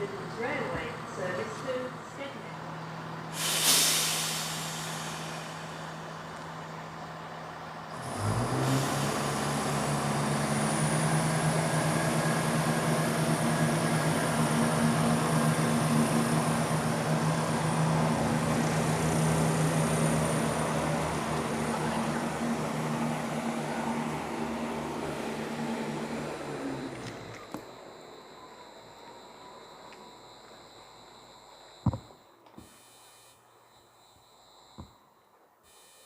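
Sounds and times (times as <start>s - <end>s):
diesel train engine throbbing: 0.0s - 30.5s.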